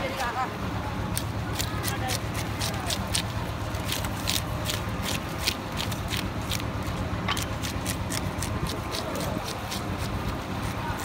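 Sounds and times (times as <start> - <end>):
low background hum: 0.0 - 11.0
fish flesh scraping on blade: 1.6 - 11.0.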